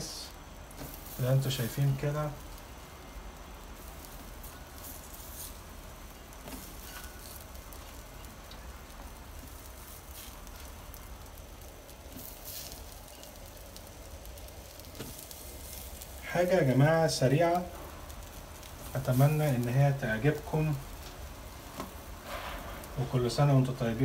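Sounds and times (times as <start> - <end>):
shrimp sizzling on grill: 0.0 - 24.0.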